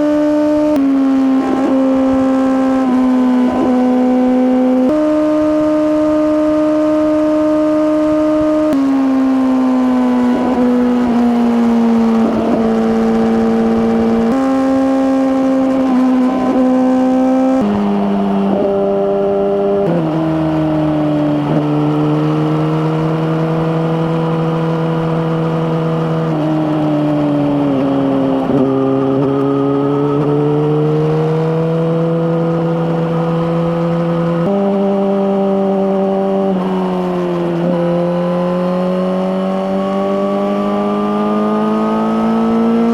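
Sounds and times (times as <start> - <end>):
motorcycle engine running at speed: 0.0 - 42.9.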